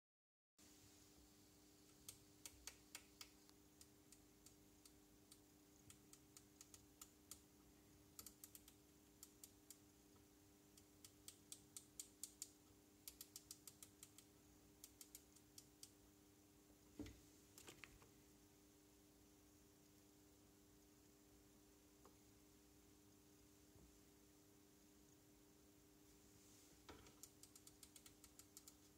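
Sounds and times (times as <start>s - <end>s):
quiet steady hum: 0.6s - 28.9s.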